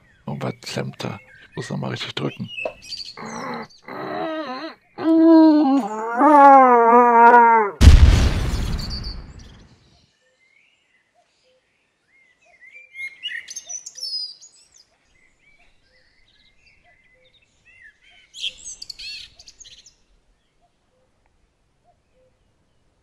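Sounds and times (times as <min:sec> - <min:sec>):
songbirds chirping and singing: 0:00.0 - 0:07.7, 0:08.8 - 0:20.6.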